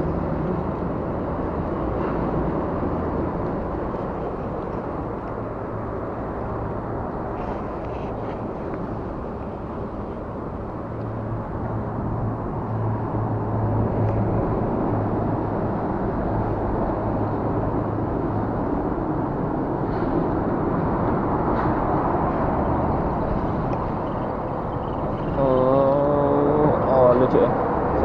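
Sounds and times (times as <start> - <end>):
rumble of lorry traffic: 0.0 - 28.0.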